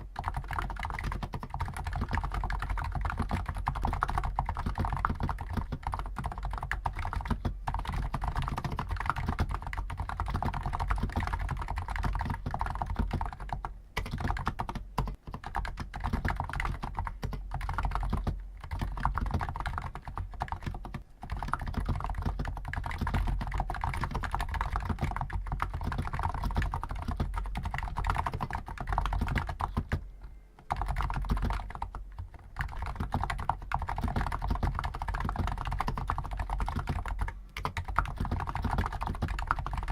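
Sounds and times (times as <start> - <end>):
fast keyboard typing: 0.1 - 30.0, 30.6 - 39.9.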